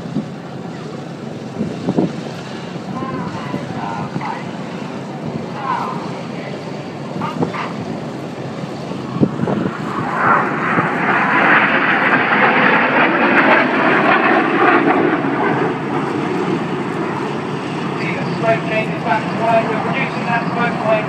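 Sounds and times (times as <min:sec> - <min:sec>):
jets flying past: 0:01.1 - 0:21.0.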